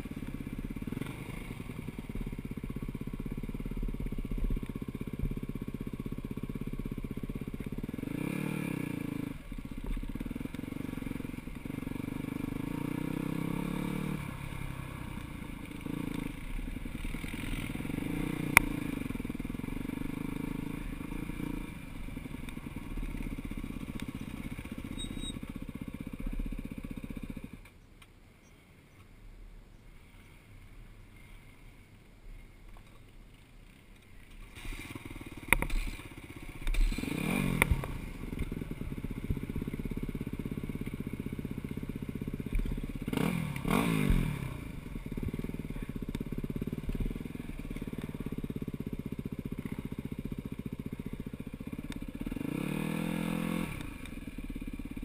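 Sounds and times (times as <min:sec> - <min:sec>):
dirt bike engine revving: 0:00.0 - 0:27.6, 0:34.5 - 0:55.0.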